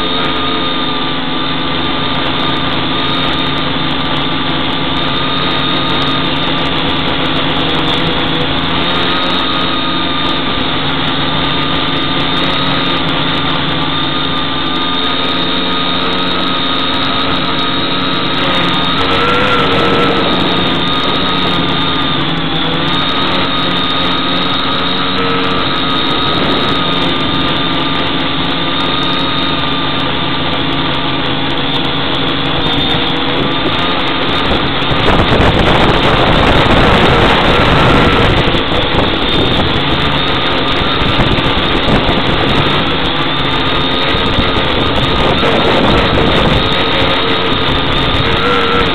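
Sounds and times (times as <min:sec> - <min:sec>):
drone propellers whining: 0:00.0 - 0:48.9
rough rushing noise: 0:00.0 - 0:48.9.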